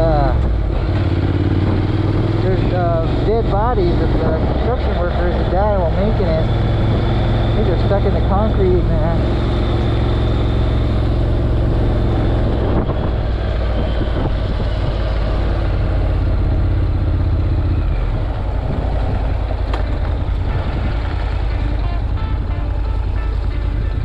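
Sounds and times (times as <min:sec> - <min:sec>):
motorcycle engine running: 0:00.0 - 0:24.0
wind noise: 0:00.0 - 0:24.0.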